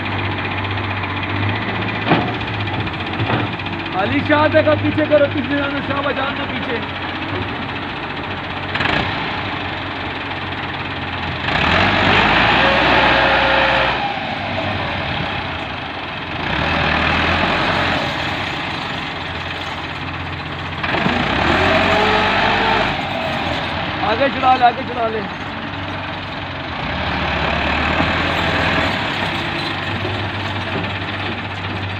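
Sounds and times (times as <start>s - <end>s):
tractor diesel engine labouring: 0.0s - 31.9s.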